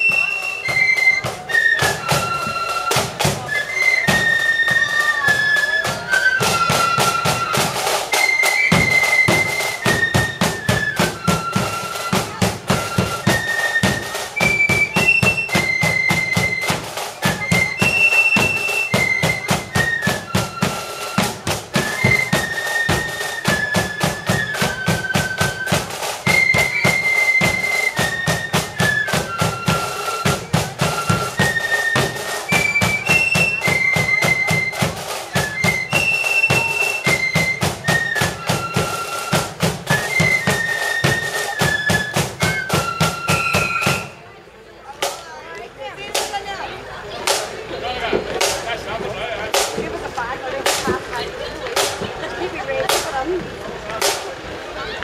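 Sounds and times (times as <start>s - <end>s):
flutes playing melody: 0.0s - 44.8s
side drum rolls: 0.0s - 55.0s.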